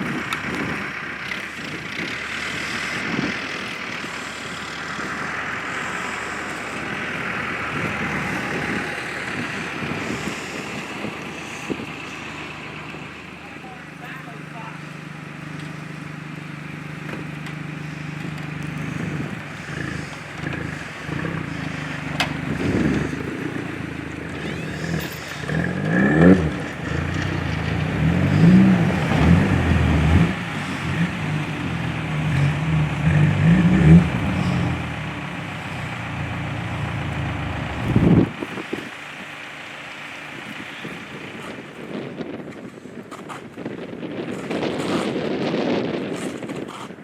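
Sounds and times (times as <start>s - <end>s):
engine revving: 0.0s - 42.3s.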